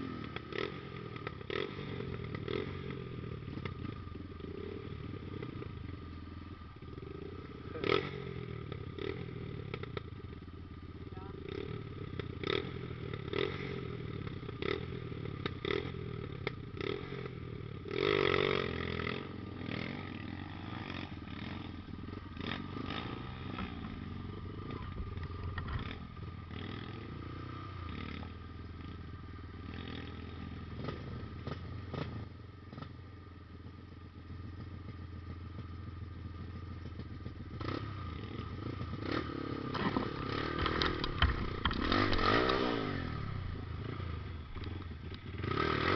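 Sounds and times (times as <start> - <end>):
motorcycle engine at low revs: 0.0 - 45.9.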